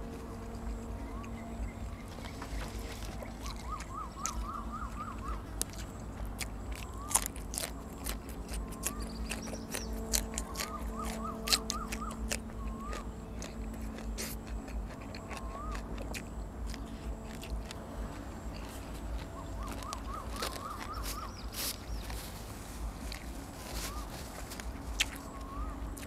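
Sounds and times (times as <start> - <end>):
chewing and crunching: 0.0 - 26.0
animal chirping: 0.2 - 26.0.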